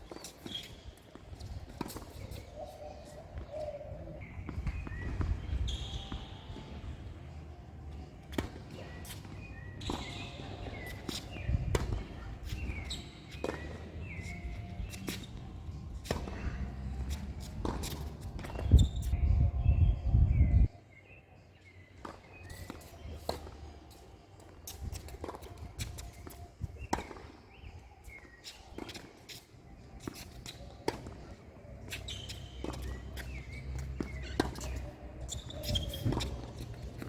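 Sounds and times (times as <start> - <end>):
tennis balls hit by rackets: 0.0 - 19.1, 21.7 - 37.0
tennis balls bouncing on court: 0.0 - 19.2, 21.9 - 37.0.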